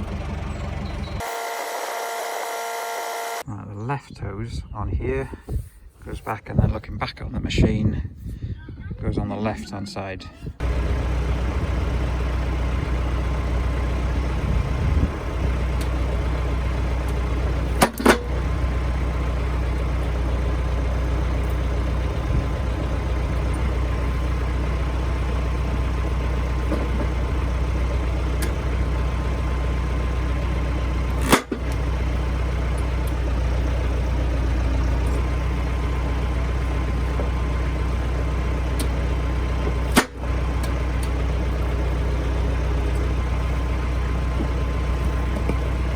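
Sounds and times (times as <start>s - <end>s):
tractor diesel engine running: 0.0s - 3.5s, 10.4s - 45.9s.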